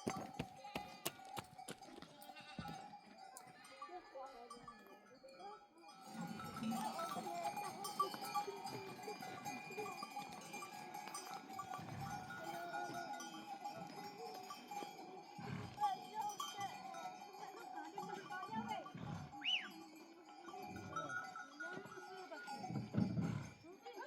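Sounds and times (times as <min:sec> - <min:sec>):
goat bells jingling: 0:00.0 - 0:24.0.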